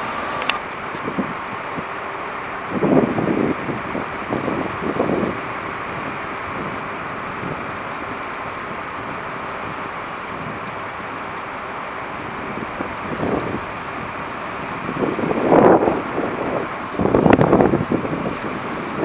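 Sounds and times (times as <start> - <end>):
street traffic: 0.0 - 19.0
wind buffeting microphone: 0.0 - 19.0.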